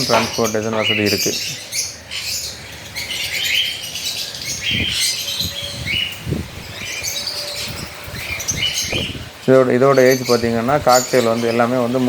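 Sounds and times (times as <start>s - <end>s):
parrots chirping: 0.0s - 12.0s.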